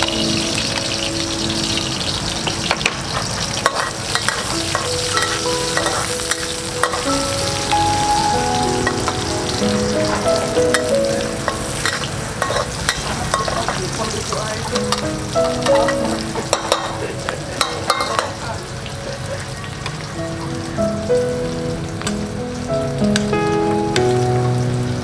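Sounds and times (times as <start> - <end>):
background music melody: 0.0 - 25.0
food sizzling in a pan: 0.0 - 25.0.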